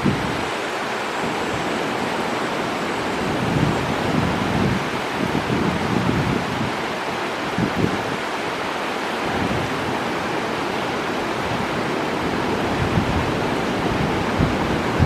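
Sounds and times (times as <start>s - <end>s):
river water rushing over rapids: 0.0s - 15.0s
wind gusts on microphone: 0.0s - 15.0s.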